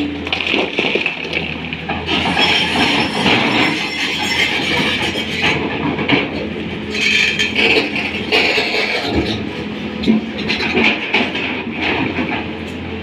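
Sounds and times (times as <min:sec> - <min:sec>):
excavator diesel engine hum: 0:00.0 - 0:13.0.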